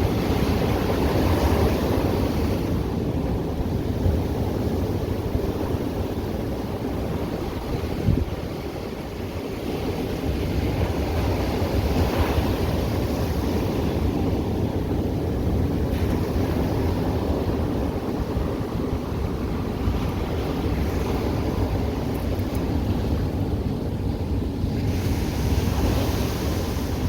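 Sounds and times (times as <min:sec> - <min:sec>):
ocean surf washing ashore: 0:00.0 - 0:27.0
wind rumbling on microphone: 0:00.0 - 0:27.0.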